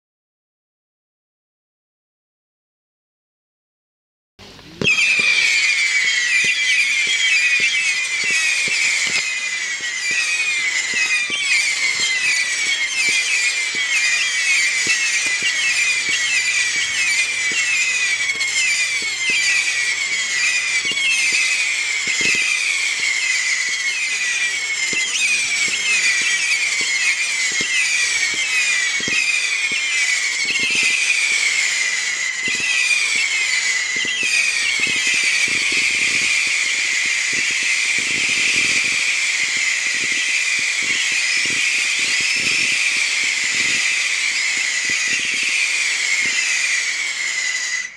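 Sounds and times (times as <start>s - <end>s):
firework whistles: 4.4s - 47.9s
firework shots popping: 4.5s - 47.9s.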